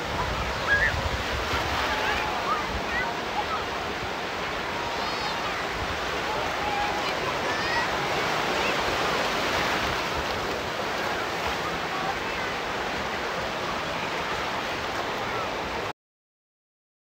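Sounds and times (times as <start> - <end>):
faint crowd voices: 0.0 - 15.9
sea surf breaking on beach: 0.0 - 15.9.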